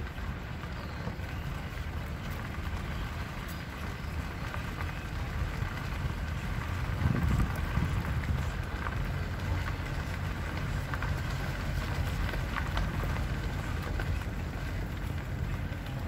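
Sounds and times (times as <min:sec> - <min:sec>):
vehicle rumbling: 0:00.0 - 0:16.0
stones crunching under tyres: 0:02.2 - 0:16.0.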